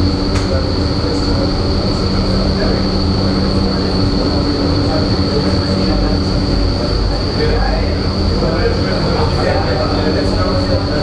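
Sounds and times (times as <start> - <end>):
low hum: 0.0 - 11.0
rush of air and fan noise: 0.0 - 11.0
thin high whine: 0.0 - 11.0.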